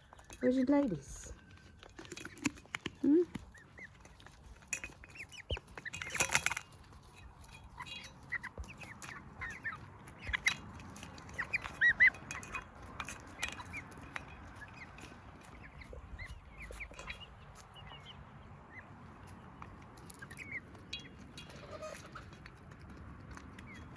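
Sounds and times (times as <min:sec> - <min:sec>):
chickens peeping: 0:00.0 - 0:23.9.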